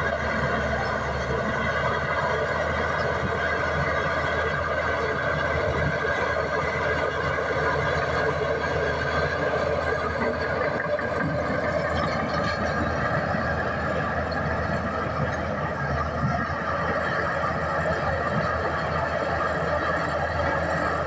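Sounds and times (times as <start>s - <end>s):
bulldozer diesel engine: 0.0s - 21.0s
steel tracks running: 0.0s - 21.0s.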